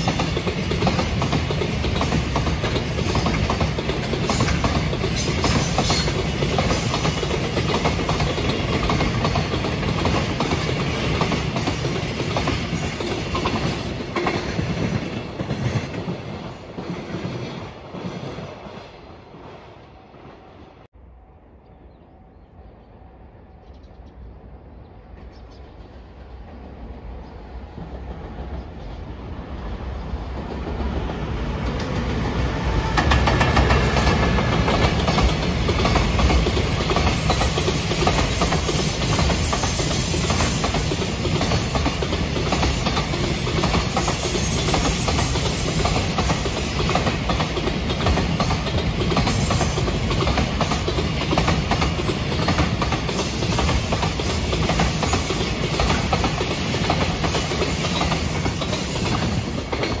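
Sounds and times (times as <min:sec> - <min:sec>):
freight train passing: 0:00.0 - 1:00.0.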